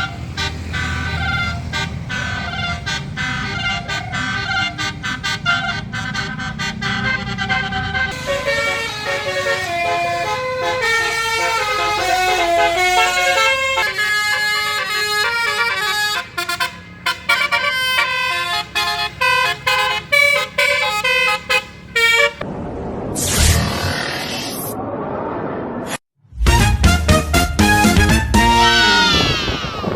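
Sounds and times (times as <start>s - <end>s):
musical bus horn playing tune: 0.0s - 22.4s, 26.5s - 29.2s.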